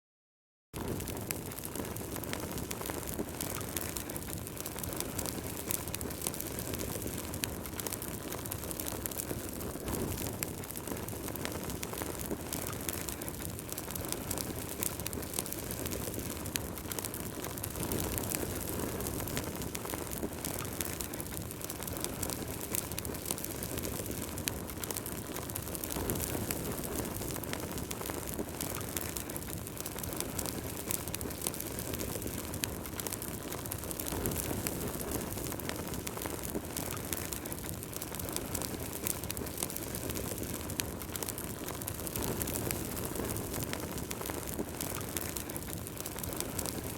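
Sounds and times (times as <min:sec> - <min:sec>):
burning wood crackling and popping: 0:00.8 - 0:46.9
fire flames rushing: 0:00.8 - 0:46.9.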